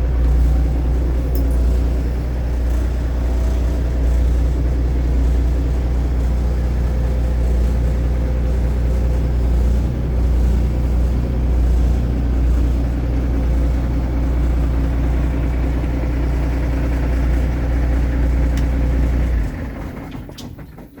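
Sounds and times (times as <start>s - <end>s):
diesel truck engine idling: 0.0s - 20.2s.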